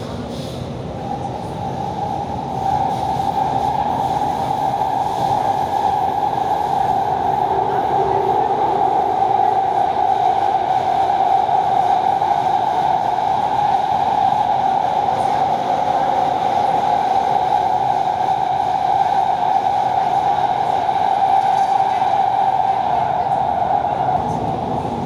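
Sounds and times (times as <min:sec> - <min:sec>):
train running inside carriage: 0:00.0 - 0:25.0.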